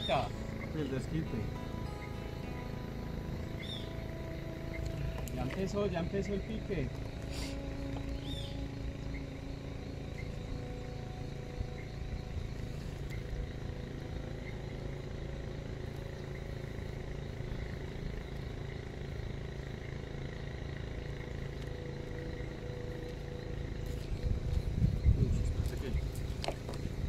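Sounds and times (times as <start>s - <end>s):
faint steady high tones: 0.0s - 27.0s
low engine rumble: 0.0s - 27.0s.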